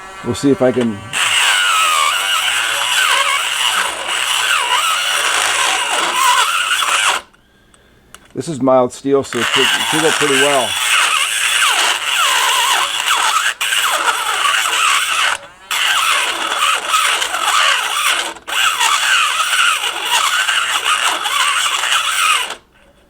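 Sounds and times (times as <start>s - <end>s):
rotary tool grinding metal whine: 0.0s - 7.4s, 9.3s - 23.0s.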